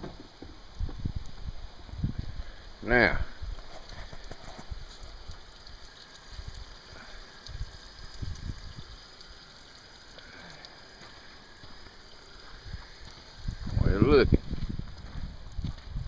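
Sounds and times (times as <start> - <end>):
water running from hose: 0.2 - 16.0.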